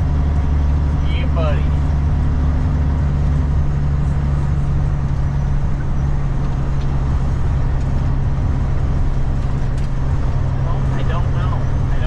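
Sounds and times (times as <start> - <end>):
truck diesel engine drone: 0.0 - 12.0.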